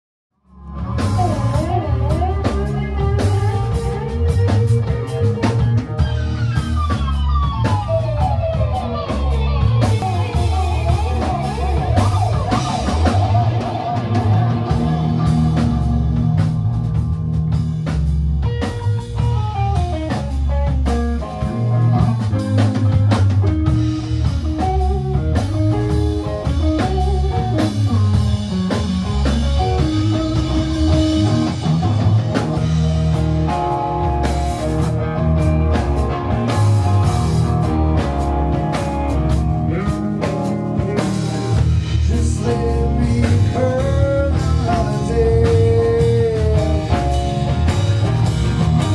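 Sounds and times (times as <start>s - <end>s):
electric guitar: 0.4s - 48.9s
heavy bass: 0.4s - 48.9s
drum kit with cymbal hits: 0.6s - 48.9s.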